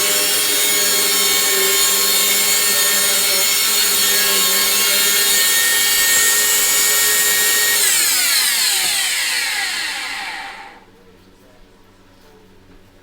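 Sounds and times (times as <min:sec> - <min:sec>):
vacuum cleaner running: 0:00.0 - 0:10.8.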